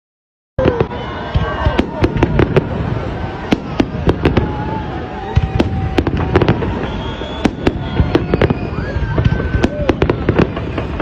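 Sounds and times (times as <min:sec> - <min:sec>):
fireworks bangs and cracks: 0:00.6 - 0:11.0
fireworks whistling: 0:00.6 - 0:11.0.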